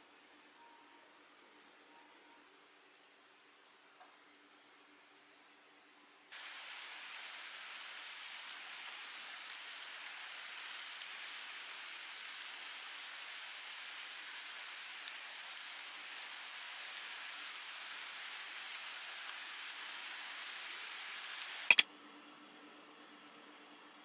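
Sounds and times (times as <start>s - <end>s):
steady rain hiss: 0.0s - 21.8s.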